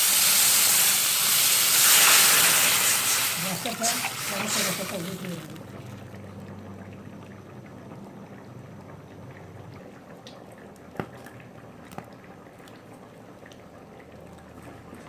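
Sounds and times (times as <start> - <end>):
soup bubbling in a pan: 0.0 - 15.0.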